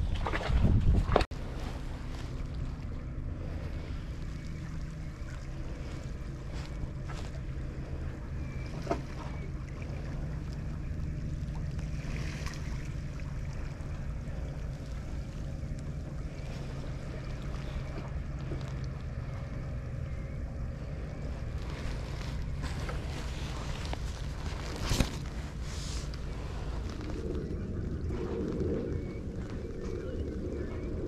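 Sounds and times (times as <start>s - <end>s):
sea against a breakwater: 0.0s - 31.0s
wind: 0.0s - 31.0s.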